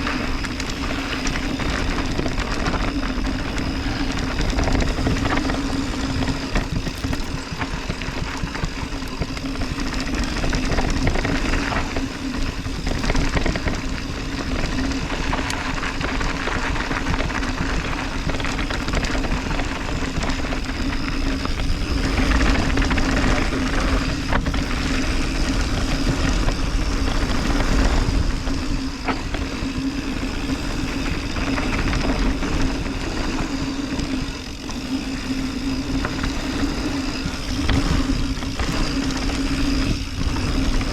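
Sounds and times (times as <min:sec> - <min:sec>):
bike rattling over bumps: 0:00.0 - 0:40.9
bike tyres rolling over dirt: 0:00.0 - 0:40.9
wind noise on microphone: 0:00.0 - 0:40.9.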